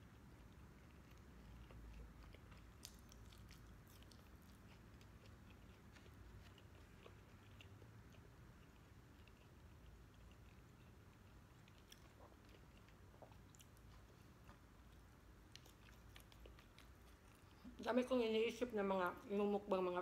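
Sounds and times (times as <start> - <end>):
faint chewing with mouth clicks: 0.0 - 18.8
low steady hum: 0.0 - 20.0.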